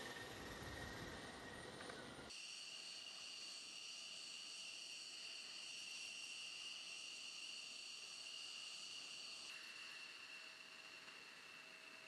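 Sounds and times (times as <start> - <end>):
jet engine idling whine: 0.0 - 12.0.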